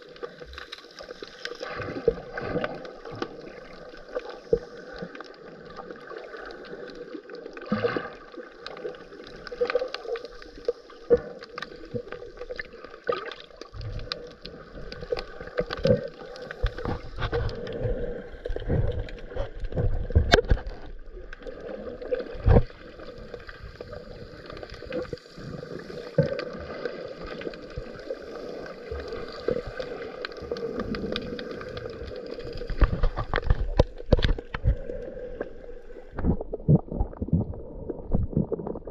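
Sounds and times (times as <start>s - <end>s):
muffled underwater hiss: 0.0s - 37.0s
low gurgling rumbles: 1.6s - 38.9s.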